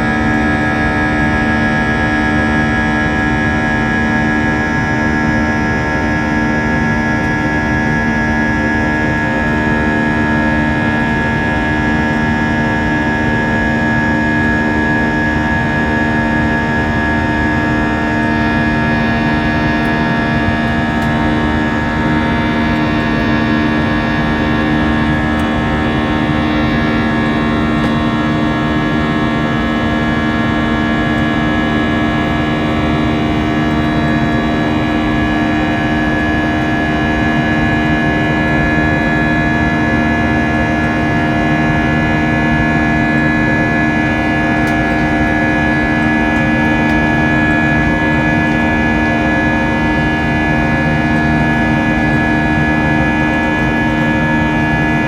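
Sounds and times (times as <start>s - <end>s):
jet engines droning in cabin: 0.0s - 55.0s.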